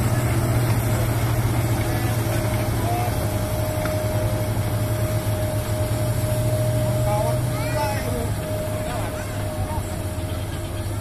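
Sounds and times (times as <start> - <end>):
diesel engines running under load: 0.0 - 11.0
high whine: 0.0 - 11.0.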